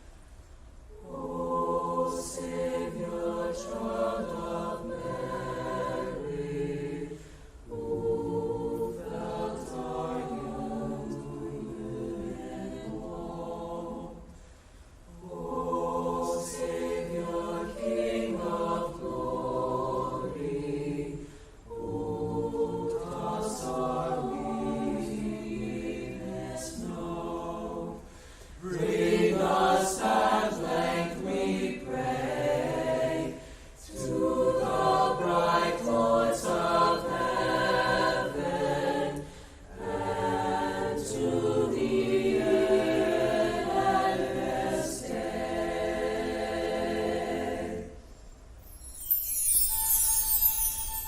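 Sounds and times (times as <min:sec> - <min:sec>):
choir singing a cappella: 0:00.9 - 0:51.0.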